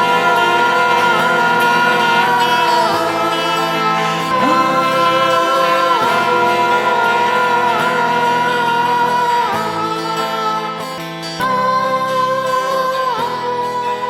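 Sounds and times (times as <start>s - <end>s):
song with long held notes: 0.0s - 14.0s.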